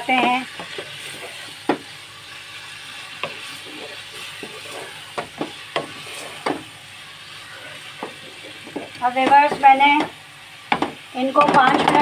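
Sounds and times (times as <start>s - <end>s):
spatula scraping a pan: 0.0s - 10.1s
vegetables sizzling in a pan: 0.0s - 12.0s.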